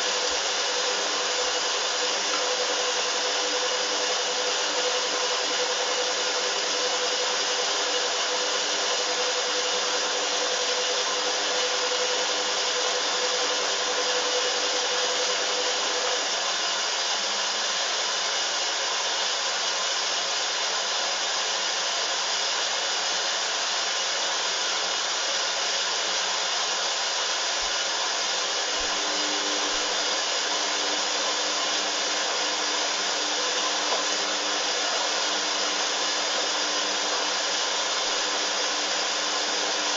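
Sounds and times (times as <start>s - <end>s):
washing machine spinning: 0.0s - 23.2s, 25.5s - 39.9s.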